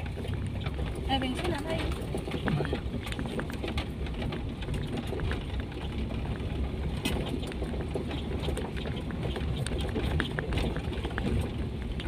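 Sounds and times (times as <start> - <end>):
engine and road rumble: 0.0 - 12.0
stones and body rattling: 0.0 - 12.0.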